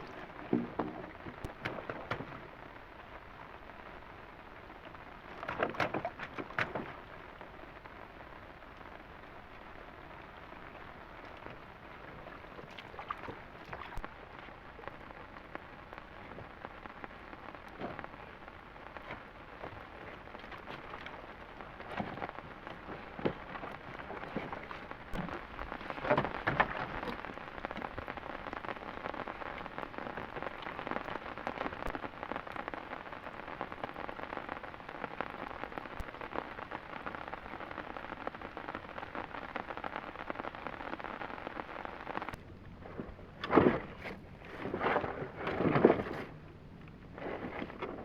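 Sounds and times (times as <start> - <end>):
heavy rain falling: 0.0 - 43.8.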